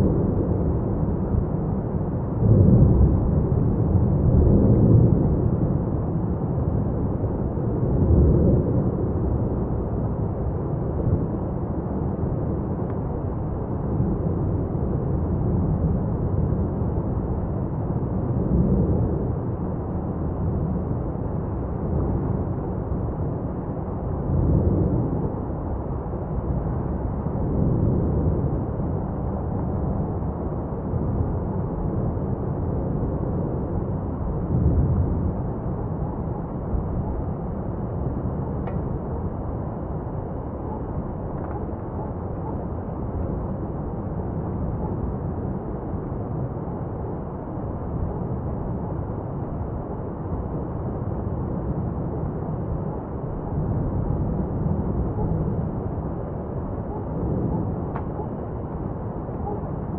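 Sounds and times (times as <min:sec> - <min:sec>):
deep volcanic rumble: 0:00.0 - 0:59.9.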